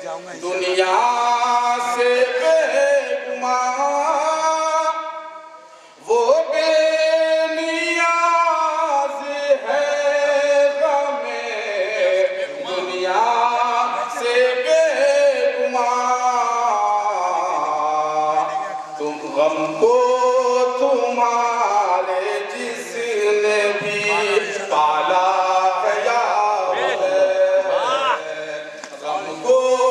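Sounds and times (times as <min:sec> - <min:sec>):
man chanting through loudspeakers: 0:00.0 - 0:29.9.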